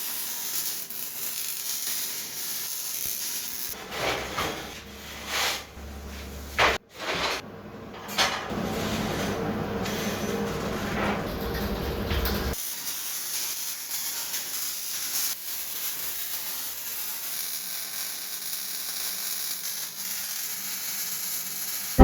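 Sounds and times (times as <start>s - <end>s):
welding arc sizzling and crackling: 0.0s - 6.7s, 8.5s - 22.0s.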